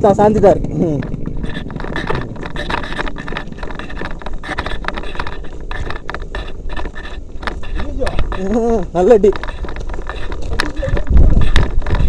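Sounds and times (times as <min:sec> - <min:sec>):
motorcycle engine rumble: 0:00.0 - 0:12.0
stones clattering under motorcycle: 0:00.3 - 0:12.0.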